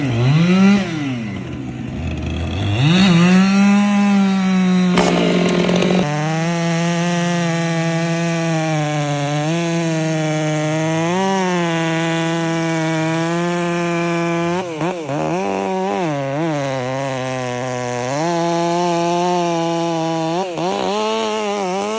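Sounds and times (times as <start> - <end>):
chainsaw revving and cutting wood: 0.0 - 21.9.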